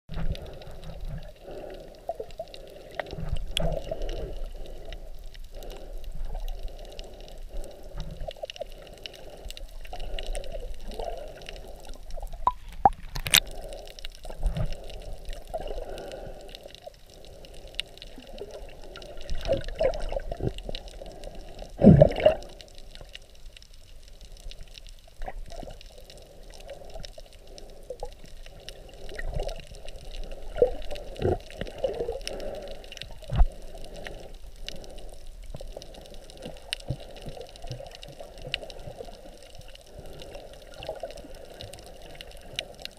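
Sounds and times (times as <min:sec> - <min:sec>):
underwater clicks: 0:00.1 - 0:42.9
underwater sloshing and gurgling: 0:00.1 - 0:42.9.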